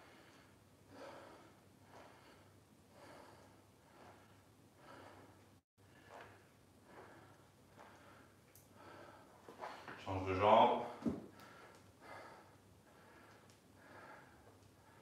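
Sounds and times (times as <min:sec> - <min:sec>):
man breathing softly: 0:00.0 - 0:10.0, 0:10.9 - 0:15.0.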